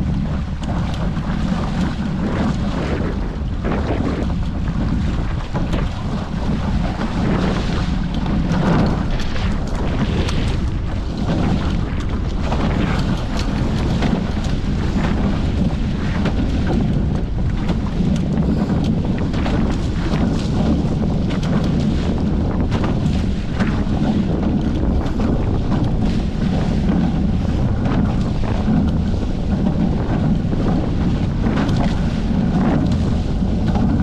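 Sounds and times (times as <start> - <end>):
water rushing along hulls: 0.0 - 34.0
wind buffeting microphone: 0.0 - 34.0.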